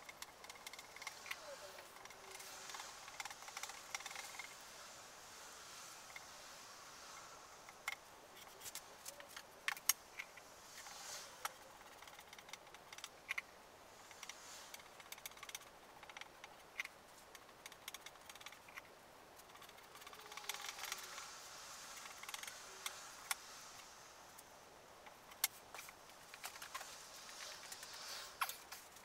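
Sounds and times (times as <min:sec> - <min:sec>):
wood scraping: 0:00.0 - 0:24.5, 0:25.1 - 0:29.0.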